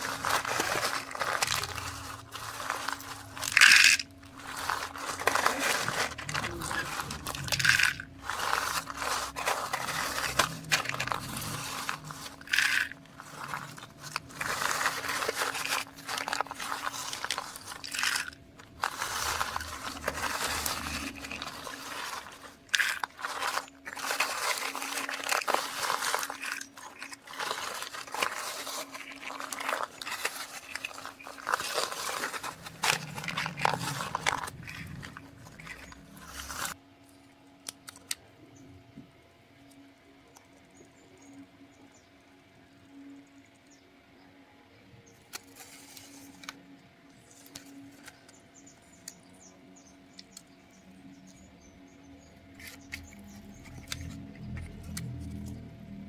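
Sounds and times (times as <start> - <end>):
crunching and rustling: 0.0 - 38.2, 45.2 - 56.0
faint low hum: 0.0 - 56.0.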